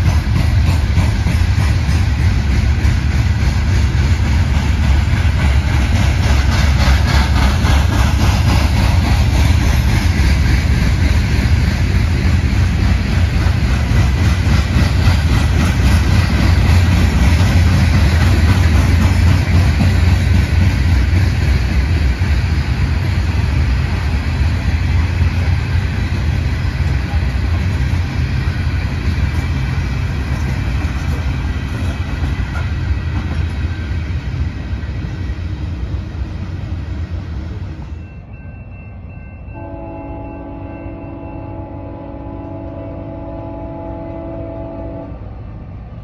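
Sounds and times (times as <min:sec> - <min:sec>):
train rumbling past: 0:00.0 - 0:46.0.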